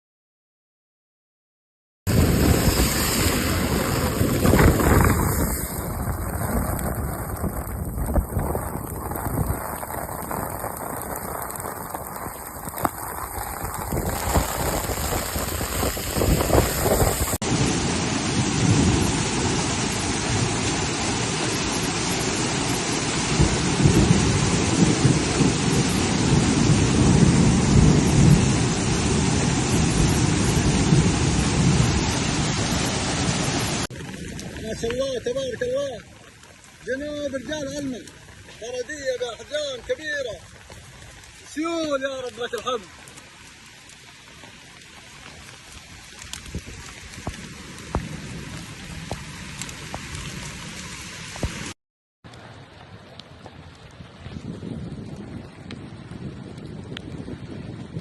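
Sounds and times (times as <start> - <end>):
heavy rain and hail pelting: 2.1 - 58.0.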